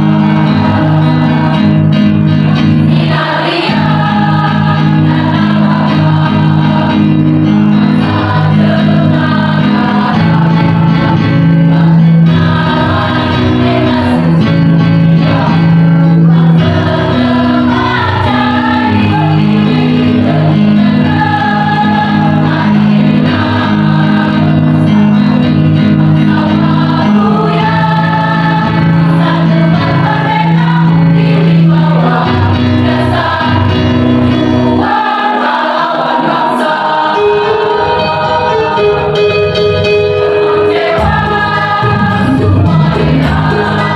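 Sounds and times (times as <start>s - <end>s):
mixed choir singing: 0.0s - 43.9s.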